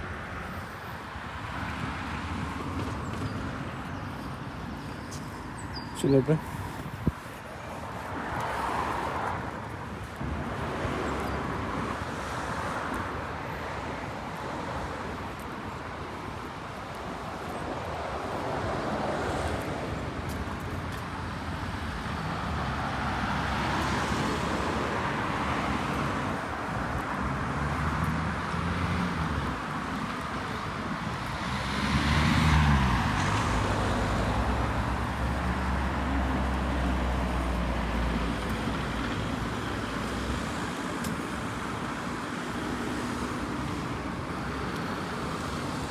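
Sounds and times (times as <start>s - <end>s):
cars passing: 0.0s - 45.9s.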